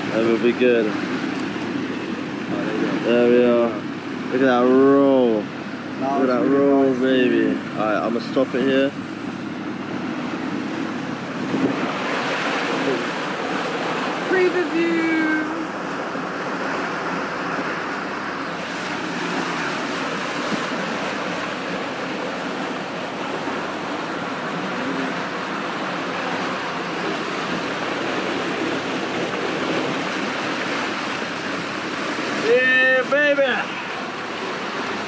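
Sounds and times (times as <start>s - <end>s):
seawater and wind rushing: 0.0s - 35.0s.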